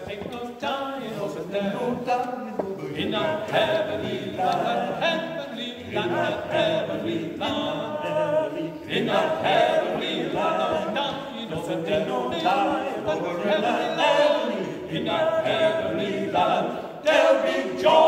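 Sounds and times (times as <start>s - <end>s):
male quartet singing a cappella: 0.0s - 18.0s.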